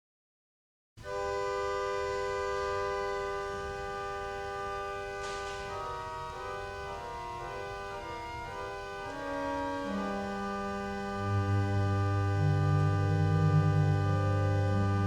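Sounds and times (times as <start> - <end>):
organ chords: 1.0 - 15.0
deep organ bass notes: 1.1 - 15.0.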